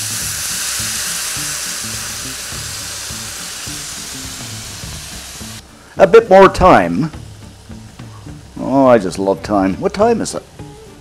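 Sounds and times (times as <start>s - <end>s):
liquid sizzling in hot pan: 0.0s - 5.7s, 6.6s - 11.0s.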